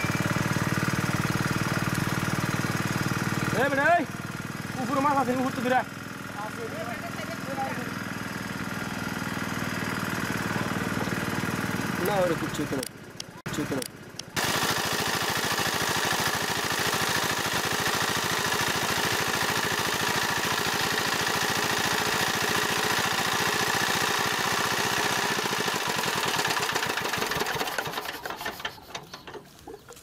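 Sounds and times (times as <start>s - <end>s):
engine-driven water pump running: 0.0s - 29.6s.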